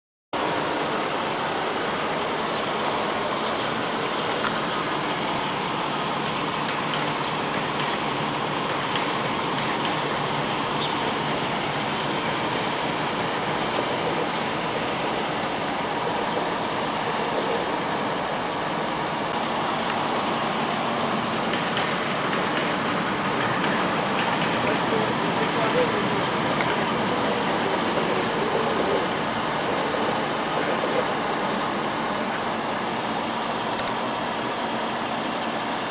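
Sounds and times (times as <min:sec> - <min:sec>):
engine and traffic noise: 0:00.3 - 0:35.9.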